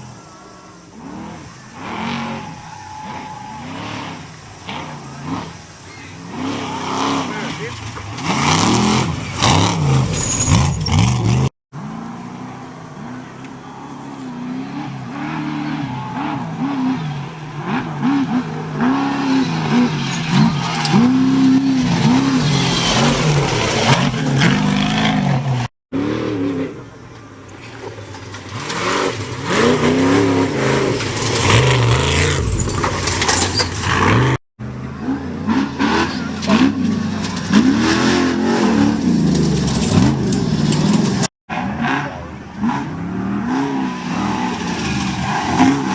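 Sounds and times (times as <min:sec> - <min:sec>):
racing truck engines revving: 0:00.0 - 0:45.9.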